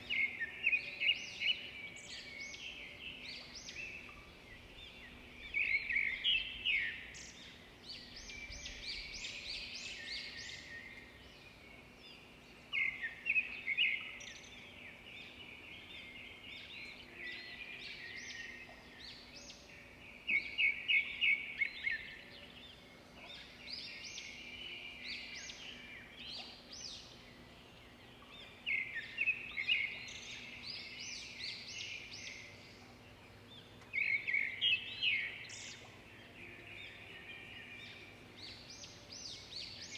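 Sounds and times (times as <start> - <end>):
quiet bird chirping: 0.0 - 39.9.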